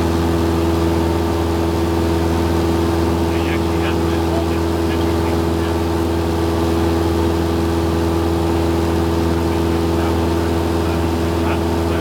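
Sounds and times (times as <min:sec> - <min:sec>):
light aircraft engine droning: 0:00.0 - 0:12.0.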